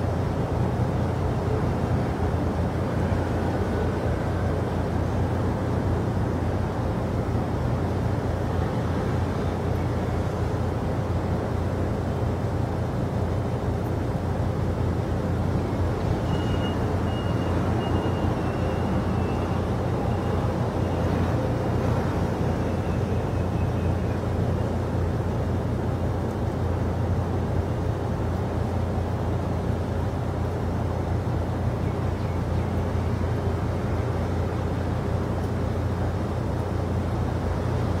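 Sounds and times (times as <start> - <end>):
low rumbling background noise: 0.0 - 38.0.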